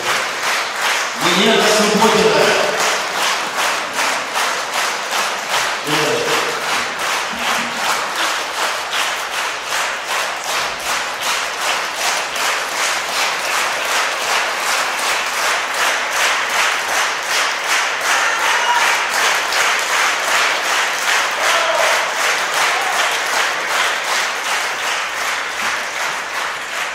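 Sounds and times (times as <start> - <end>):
audience clapping in time: 0.0 - 26.9.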